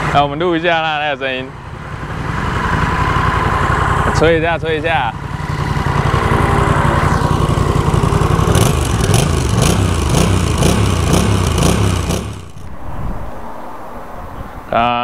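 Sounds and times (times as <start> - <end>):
motorcycle engine idling and revving: 0.0 - 12.7.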